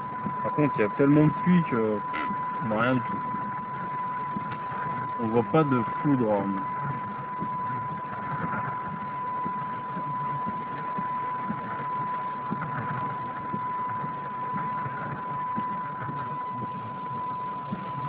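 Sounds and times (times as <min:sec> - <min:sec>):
steady high tone: 0:00.0 - 0:18.0.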